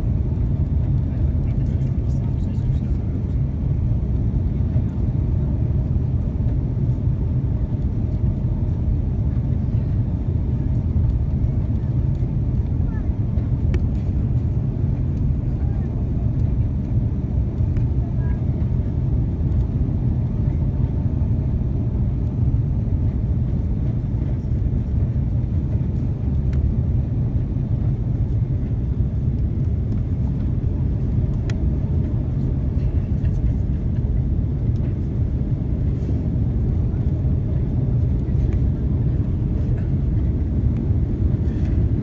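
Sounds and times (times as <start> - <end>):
airliner cabin rumble: 0.0 - 42.0.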